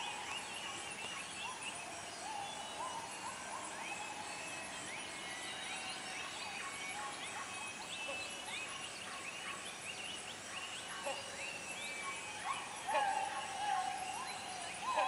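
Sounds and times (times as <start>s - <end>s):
high insect hum: 0.0s - 15.0s.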